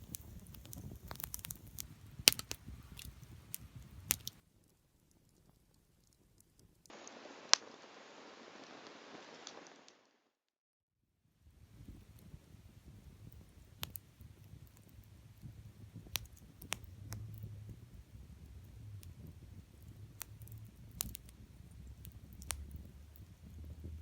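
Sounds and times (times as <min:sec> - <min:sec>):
low steady fire rumble: 0:00.0 - 0:10.0, 0:11.3 - 0:24.0
burning wood crackling and popping: 0:00.0 - 0:10.1, 0:11.6 - 0:24.0.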